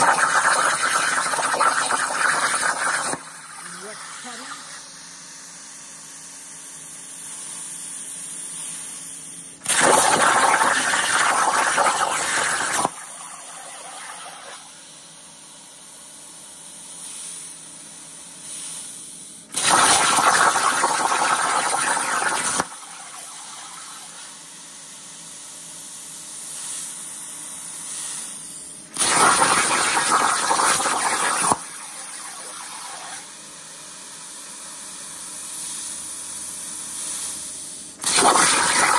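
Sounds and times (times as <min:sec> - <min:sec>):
plasma cutter harsh hiss: 0:00.0 - 0:05.9, 0:07.2 - 0:15.0, 0:16.5 - 0:38.9.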